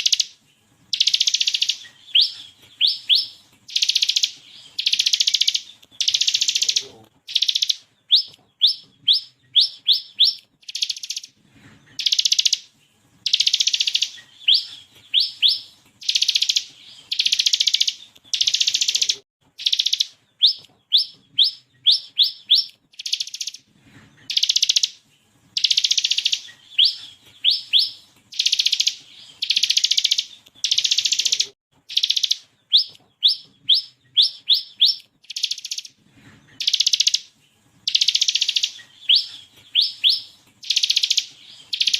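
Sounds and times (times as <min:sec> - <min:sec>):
bird singing buzzy trills: 0:00.0 - 0:41.9.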